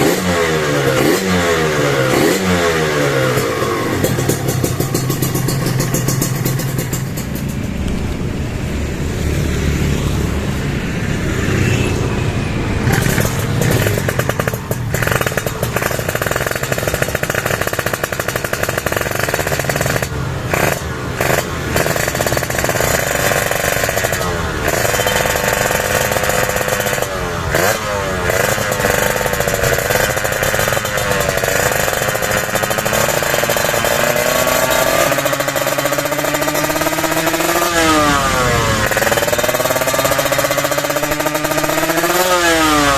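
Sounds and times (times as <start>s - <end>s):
two-stroke motorcycle engine revving: 0.0s - 42.9s.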